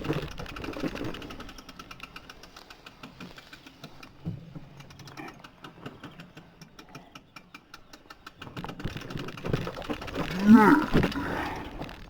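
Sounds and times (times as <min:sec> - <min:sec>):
bicycle freewheel ticking: 0:00.0 - 0:10.6.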